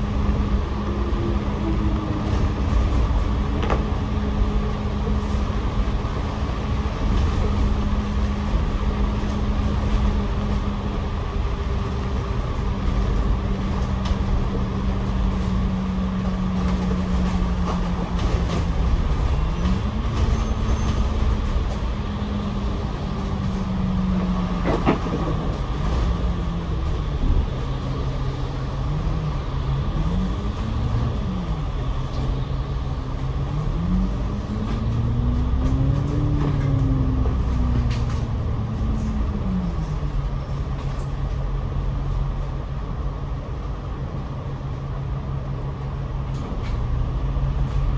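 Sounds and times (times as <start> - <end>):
bus engine humming: 0.0 - 47.9.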